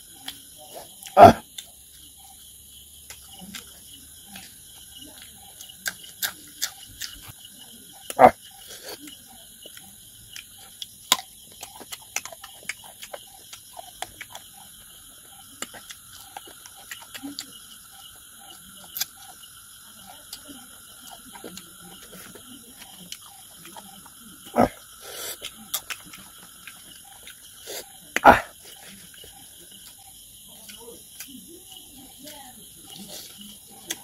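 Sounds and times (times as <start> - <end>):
person chewing and lip-smacking: 3.0 - 7.4, 8.0 - 31.4, 32.9 - 34.0.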